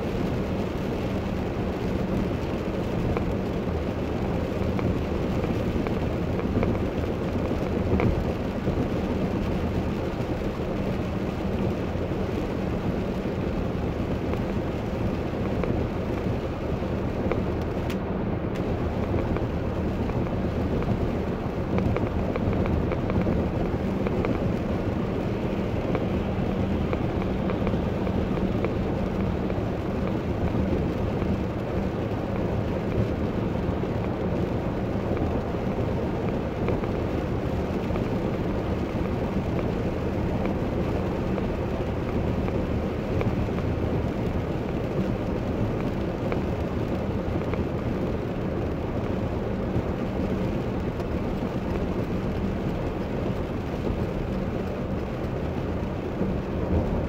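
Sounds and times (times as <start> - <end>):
low engine and road drone: 0.0 - 57.0
tyres hissing on wet road: 0.0 - 57.0.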